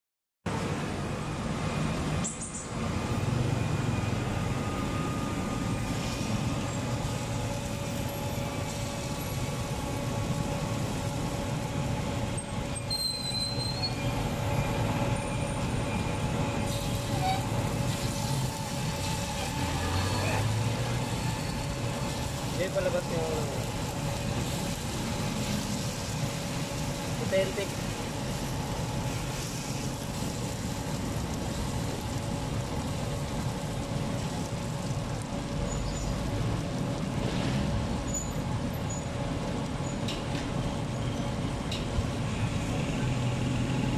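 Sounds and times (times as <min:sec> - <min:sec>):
low traffic rumble: 0:00.5 - 0:43.9.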